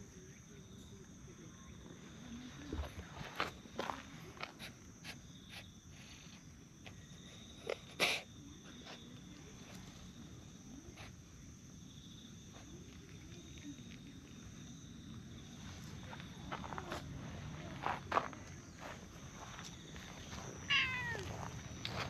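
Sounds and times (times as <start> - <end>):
high insect chirping: 3.3 - 22.0.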